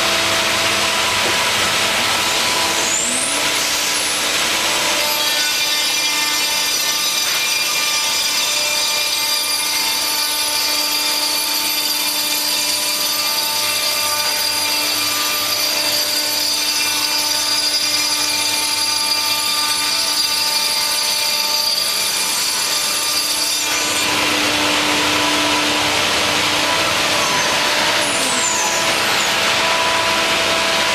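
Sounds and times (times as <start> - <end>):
router spindle high whine: 0.0 - 30.9.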